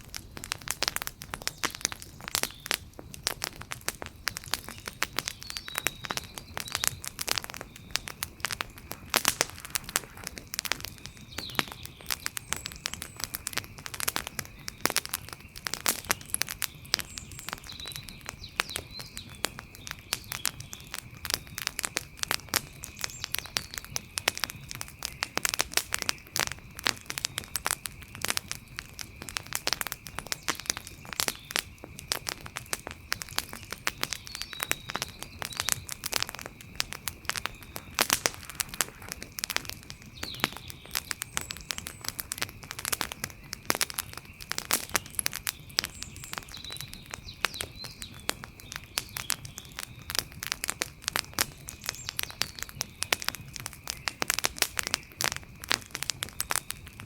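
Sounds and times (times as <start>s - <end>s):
wood fire crackling: 0.0s - 57.0s
faint chirps: 4.4s - 50.8s.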